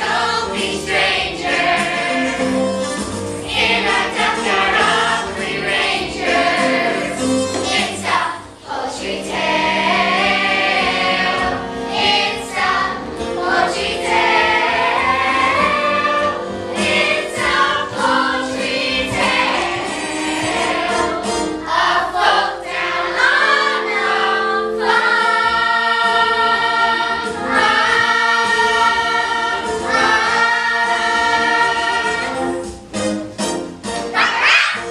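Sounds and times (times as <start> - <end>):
instrumental accompaniment: 0.0 - 34.9.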